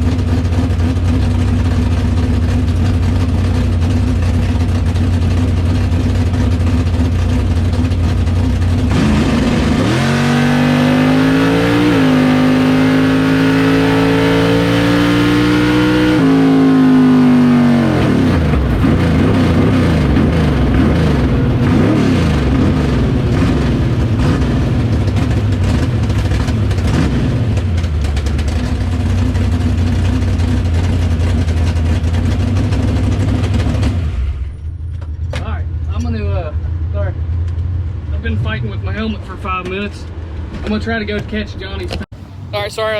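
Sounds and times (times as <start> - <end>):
drag race car engine revving: 0.0 - 34.4.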